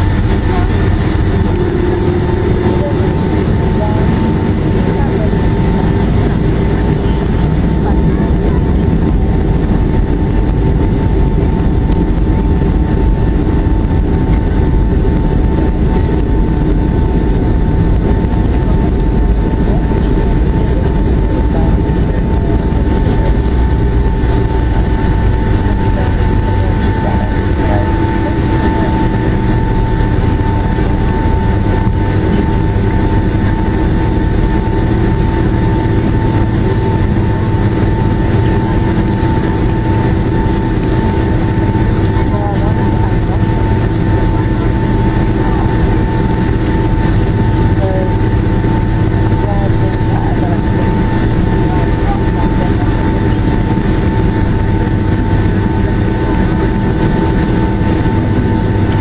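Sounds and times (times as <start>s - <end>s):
jet engine whine: 0.0s - 59.0s
jet engines rumbling: 0.0s - 59.0s.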